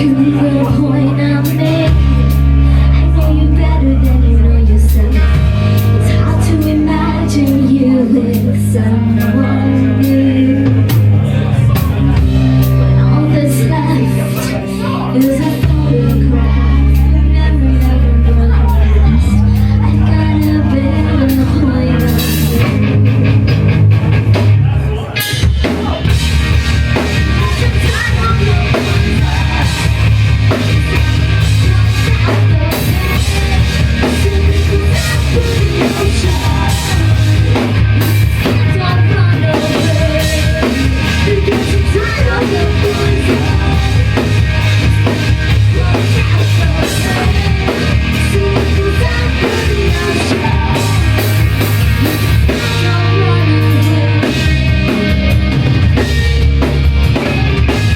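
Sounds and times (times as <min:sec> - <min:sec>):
drum kit beat: 0:00.0 - 0:57.9
heavy bass line: 0:00.0 - 0:57.9
rock band playing live: 0:00.0 - 0:57.9.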